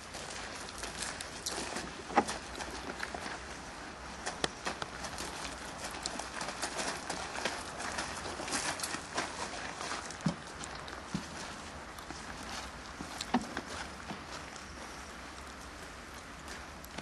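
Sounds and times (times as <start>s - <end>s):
footsteps on gravel: 0.0s - 17.0s.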